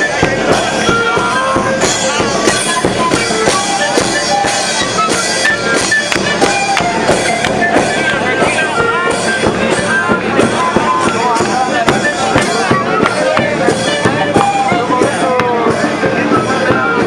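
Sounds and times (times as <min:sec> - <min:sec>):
drums beating: 0:00.0 - 0:17.0
wind instruments holding notes: 0:00.0 - 0:17.0.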